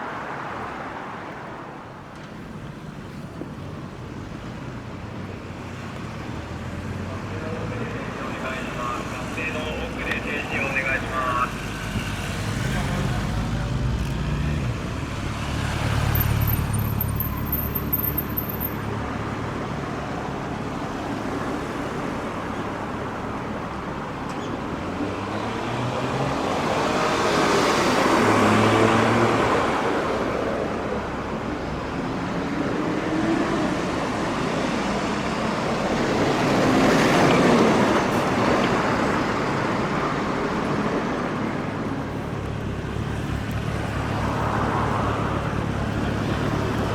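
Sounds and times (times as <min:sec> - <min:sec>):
vehicles driving past: 0:00.0 - 0:46.9.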